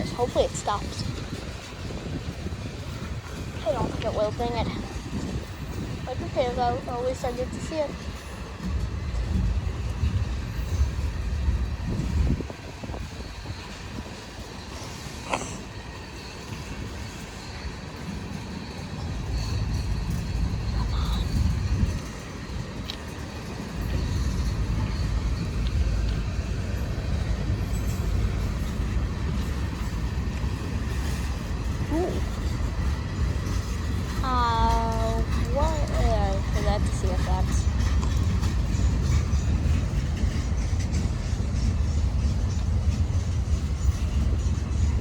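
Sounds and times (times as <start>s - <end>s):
freight train cars rolling: 0.0s - 45.0s.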